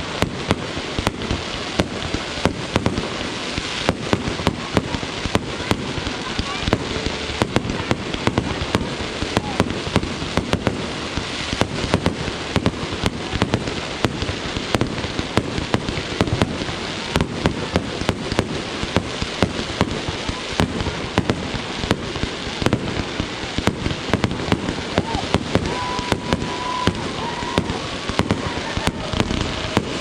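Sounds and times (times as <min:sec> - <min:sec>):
fireworks bangs and pops: 0:00.0 - 0:30.0
fireworks crackle: 0:00.0 - 0:30.0.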